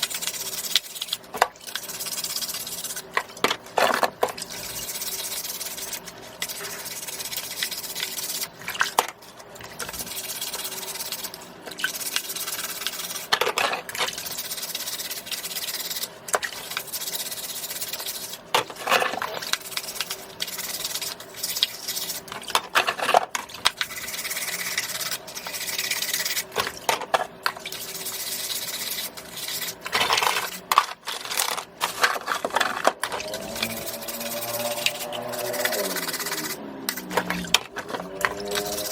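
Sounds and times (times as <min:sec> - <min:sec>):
hand rubbing and scrubbing scallops: 0:00.0 - 0:38.9.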